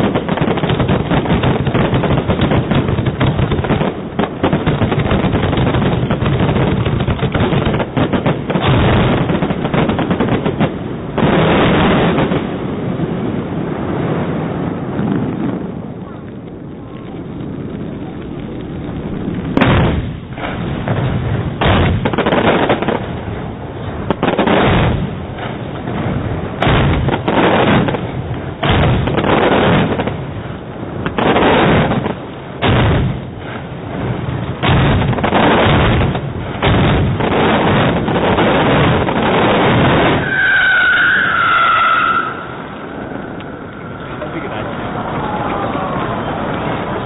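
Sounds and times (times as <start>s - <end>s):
fireworks exploding: 0.0s - 47.0s.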